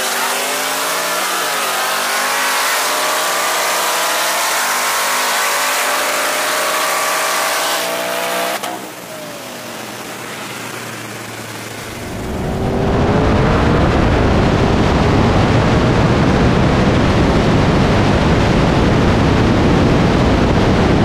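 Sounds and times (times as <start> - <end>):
car engines running: 0.0 - 21.0
road and wind noise: 0.0 - 21.0.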